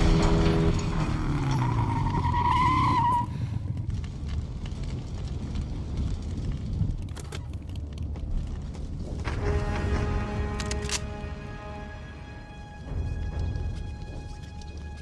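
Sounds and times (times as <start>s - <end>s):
low rumbling with crackles: 0.0s - 15.0s.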